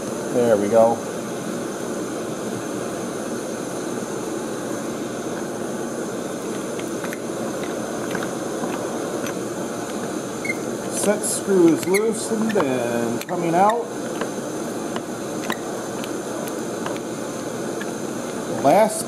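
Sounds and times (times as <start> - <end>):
gas torch flame hissing: 0.0 - 19.0.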